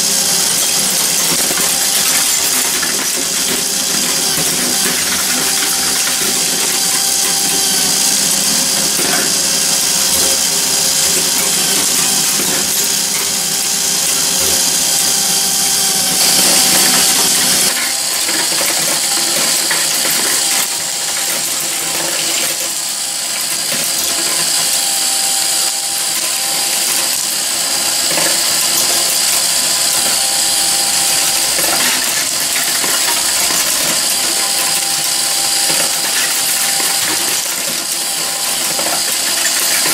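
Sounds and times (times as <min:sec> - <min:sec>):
mechanical whir of gears: 0:00.0 - 0:39.9.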